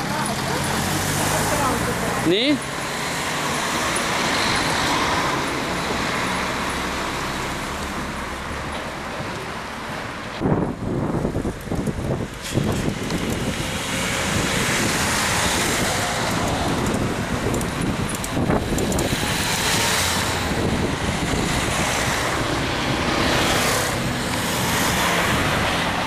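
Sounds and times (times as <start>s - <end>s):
car engines: 0.0s - 26.0s
tyres on road: 0.0s - 26.0s.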